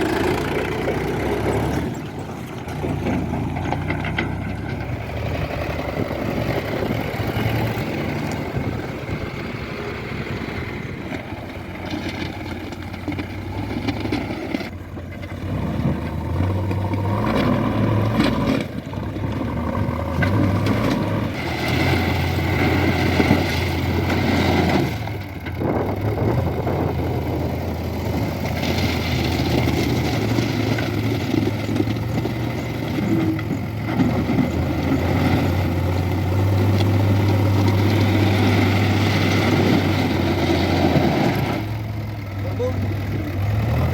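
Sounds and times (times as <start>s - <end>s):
diesel engines running: 0.0s - 43.9s.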